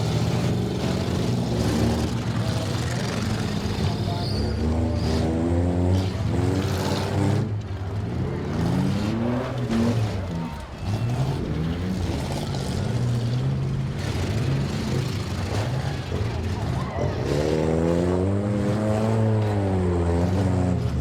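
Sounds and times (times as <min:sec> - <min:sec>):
car engines revving hard: 0:00.0 - 0:21.0.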